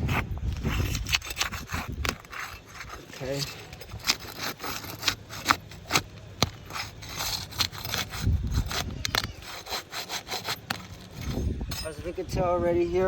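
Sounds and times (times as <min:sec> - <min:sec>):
crowbar scraping under shingle: 0:00.0 - 0:12.6.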